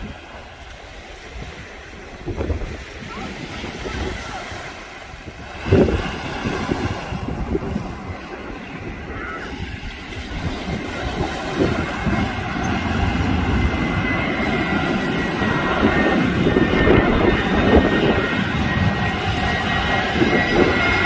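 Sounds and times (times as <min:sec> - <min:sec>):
jet engine high whine: 0:00.0 - 0:21.0
jet engine rumble: 0:00.0 - 0:21.0.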